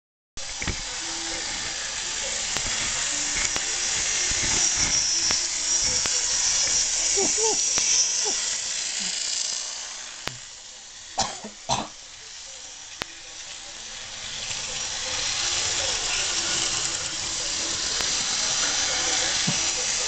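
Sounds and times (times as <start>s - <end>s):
model train running on track: 0.4s - 20.0s.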